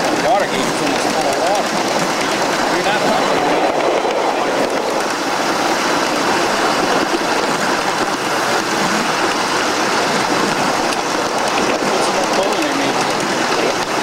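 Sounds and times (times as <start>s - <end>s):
steam locomotive exhaust and wheels: 0.0s - 14.0s.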